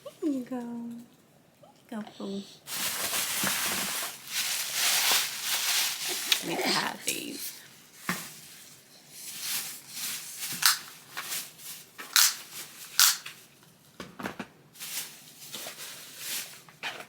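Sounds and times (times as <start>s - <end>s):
plastic crinkling and rustling: 2.6s - 17.0s.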